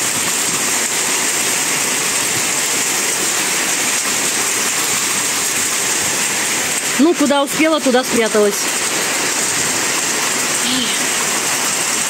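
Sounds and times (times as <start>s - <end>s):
heavy hail and rain: 0.0s - 12.0s.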